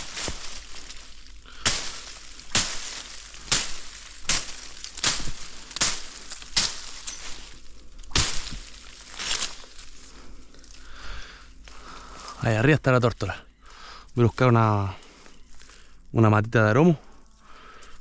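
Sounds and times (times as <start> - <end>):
footsteps crunching through brush: 0.0 - 18.0.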